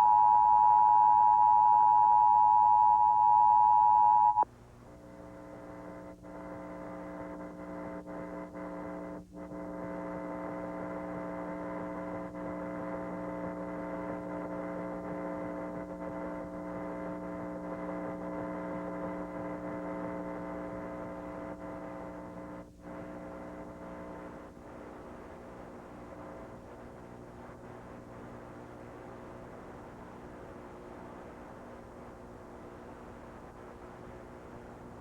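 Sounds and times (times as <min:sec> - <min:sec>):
electrical mains hum and buzz: 0:00.0 - 0:35.0.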